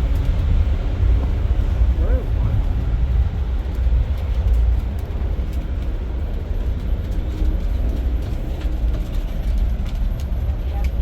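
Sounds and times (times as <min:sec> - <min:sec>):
train rumbling in motion: 0:00.0 - 0:11.0.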